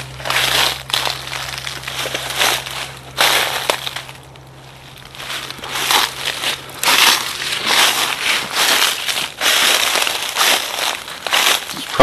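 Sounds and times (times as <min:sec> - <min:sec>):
brush scraping: 0:00.0 - 0:12.0
footsteps crunching through dry leaves: 0:00.0 - 0:12.0.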